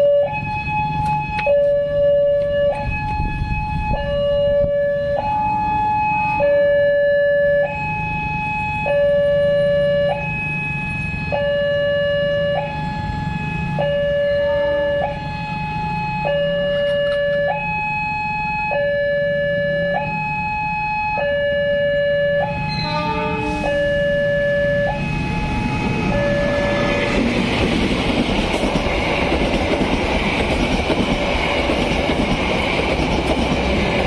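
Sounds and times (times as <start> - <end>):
level-crossing two-tone alarm: 0.0 - 34.0.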